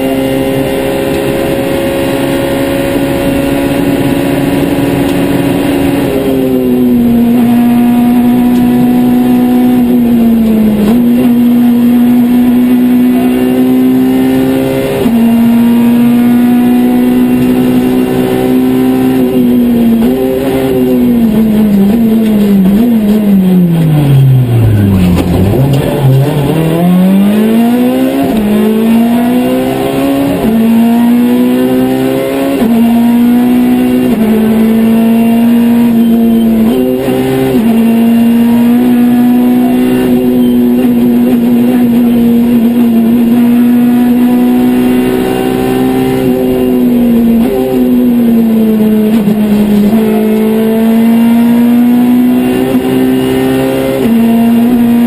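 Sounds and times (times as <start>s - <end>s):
rally car engine revving: 0.0s - 55.0s
gear changes: 0.1s - 55.0s.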